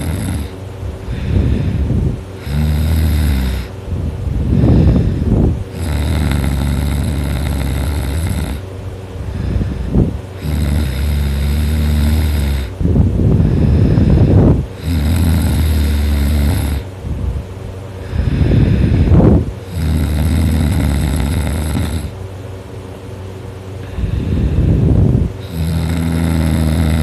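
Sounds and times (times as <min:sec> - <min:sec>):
teenager snoring loudly: 0:00.0 - 0:03.8, 0:04.4 - 0:08.6, 0:09.3 - 0:16.9, 0:18.0 - 0:22.2, 0:23.8 - 0:27.0.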